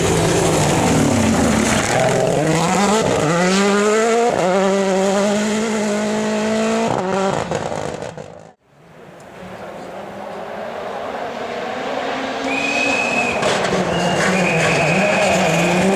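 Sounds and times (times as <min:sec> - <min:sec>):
rally car engine accelerating: 0:00.0 - 0:15.9.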